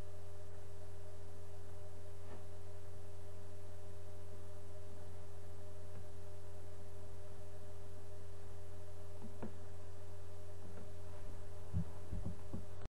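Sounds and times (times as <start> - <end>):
electrical hum: 0.0 - 12.9.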